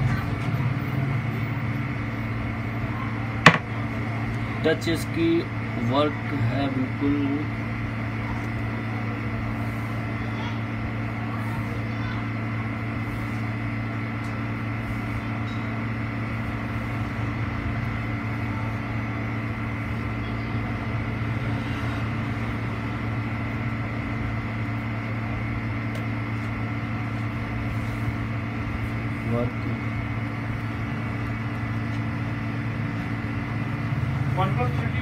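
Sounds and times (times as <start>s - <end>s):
machine hum: 0.0s - 35.0s.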